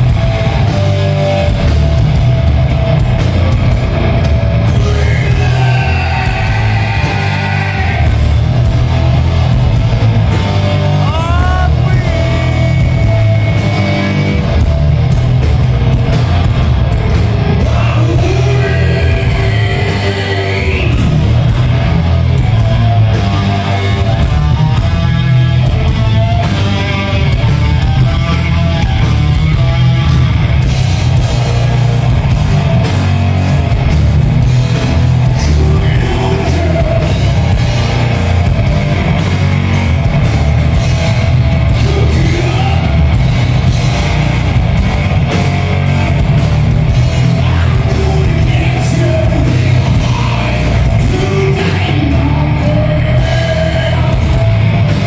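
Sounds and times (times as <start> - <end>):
bass guitar: 0.0 - 55.0
distorted electric guitar: 0.0 - 55.0
drum kit: 0.0 - 55.0.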